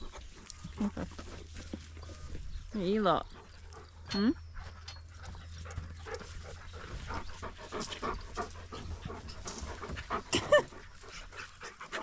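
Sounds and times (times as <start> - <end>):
dogs panting: 0.0 - 12.0.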